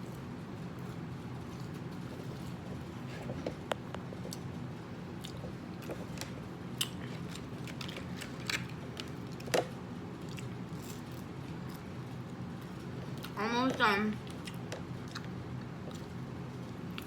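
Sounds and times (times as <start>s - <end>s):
chewing and biting food: 1.5s - 13.4s, 14.2s - 16.2s.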